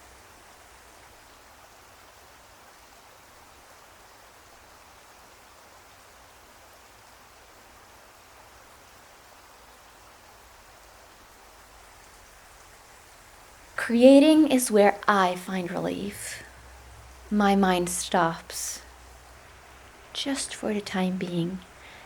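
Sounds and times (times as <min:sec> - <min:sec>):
faint steady rain: 0:00.0 - 0:22.0
scattered raindrops: 0:00.0 - 0:22.0.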